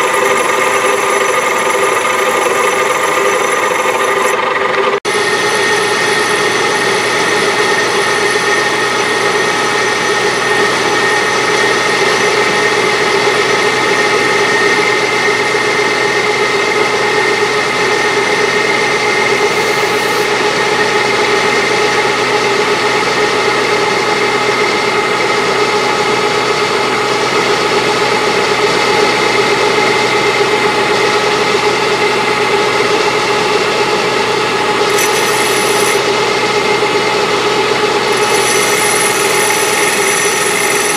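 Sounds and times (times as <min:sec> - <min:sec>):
metal lathe running: 0:00.0 - 0:40.9.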